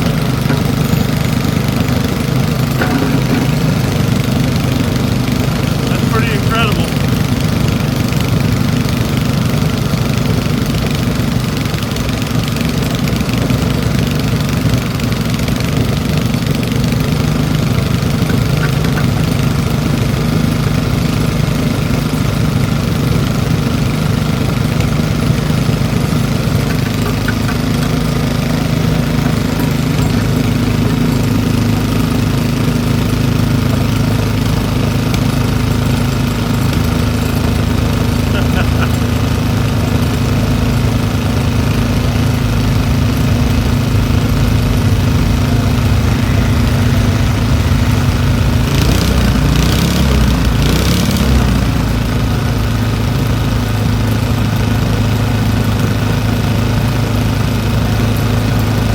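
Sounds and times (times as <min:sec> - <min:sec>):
single-cylinder engine running: 0:00.0 - 0:58.9.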